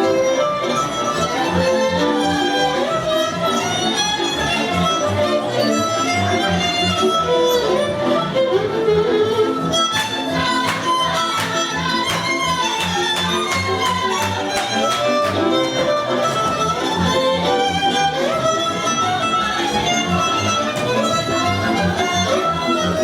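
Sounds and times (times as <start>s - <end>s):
pulsing low string accompaniment: 0.0s - 23.0s
violin melody: 0.0s - 23.0s.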